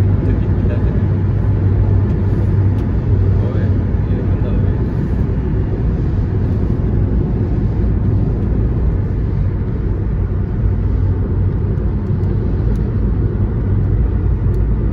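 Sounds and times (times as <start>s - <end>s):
road and tyre noise in car cabin: 0.0s - 14.9s
rain hitting windscreen: 0.1s - 14.9s.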